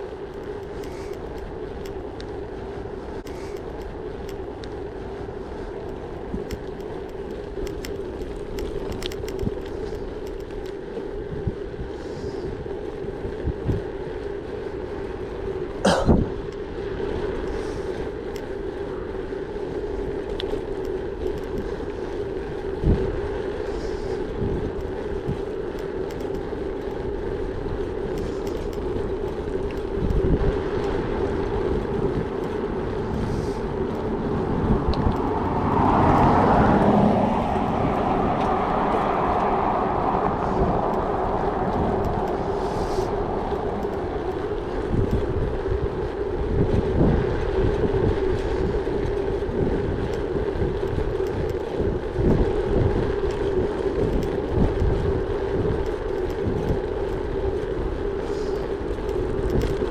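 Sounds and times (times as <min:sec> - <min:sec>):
bike tyres on gravel track: 0:00.0 - 0:59.9.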